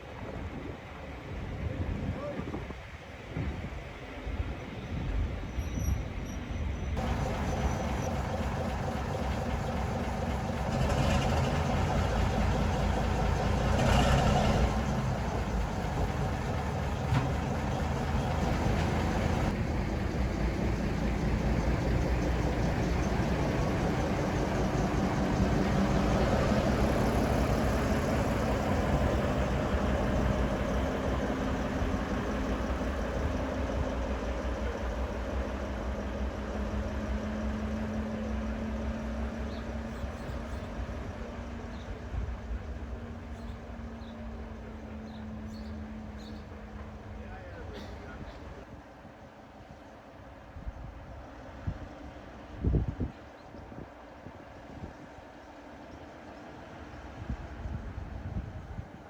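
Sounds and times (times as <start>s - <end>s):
diesel locomotive engine running: 0.1s - 53.0s.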